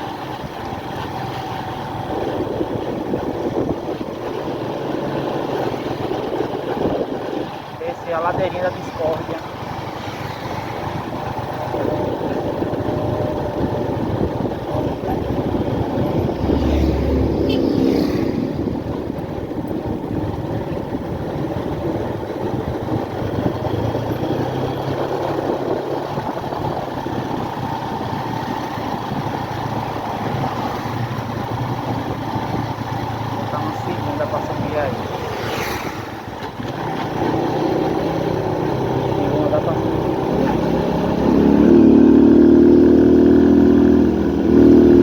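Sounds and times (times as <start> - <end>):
motorcycle engine running: 0.0 - 45.0
road noise: 0.0 - 45.0.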